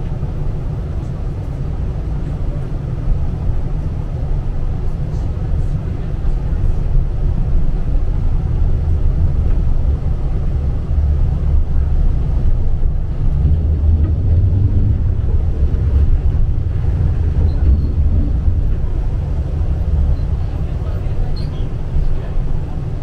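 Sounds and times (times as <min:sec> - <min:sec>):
tram wheels rumbling: 0:00.0 - 0:23.0.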